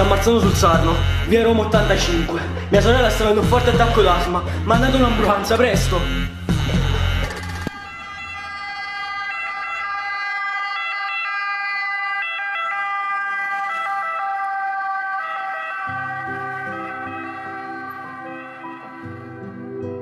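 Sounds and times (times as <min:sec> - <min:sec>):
ambulance siren: 0:00.0 - 0:19.8.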